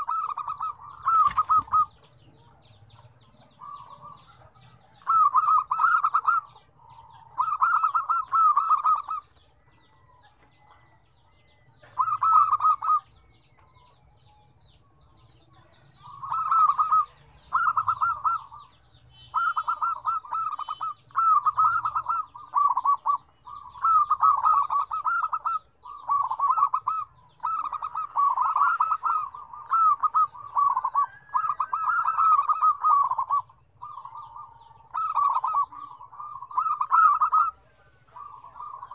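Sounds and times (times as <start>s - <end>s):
doves cooing: 0.0s - 14.1s, 14.8s - 38.9s.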